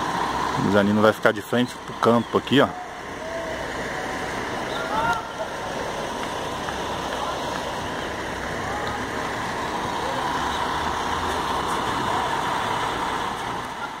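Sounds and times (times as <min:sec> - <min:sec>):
truck engines running: 0:00.0 - 0:14.0.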